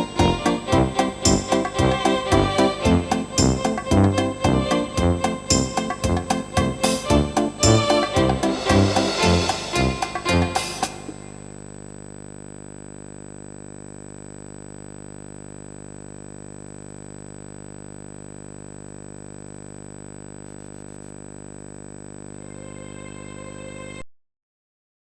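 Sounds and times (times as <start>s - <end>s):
electrical hum with high whine: 0.0s - 23.8s.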